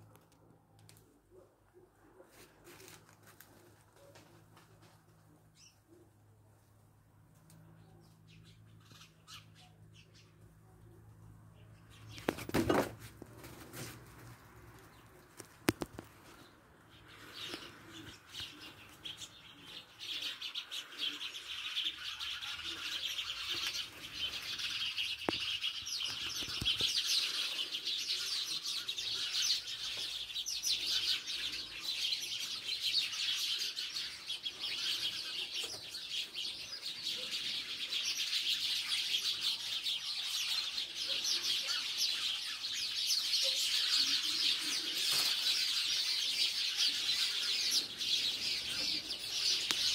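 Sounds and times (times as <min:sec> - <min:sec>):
small birds chirping: 0:07.3 - 0:12.8, 0:14.2 - 0:49.9.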